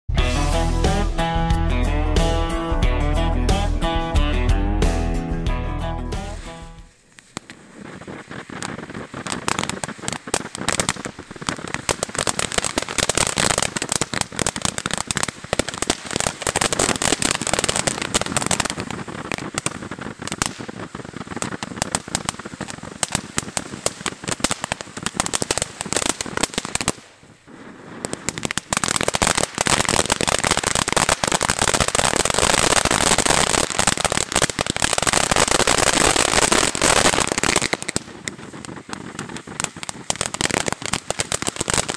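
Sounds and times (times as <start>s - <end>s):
firework fountain crackling: 5.4s - 41.9s.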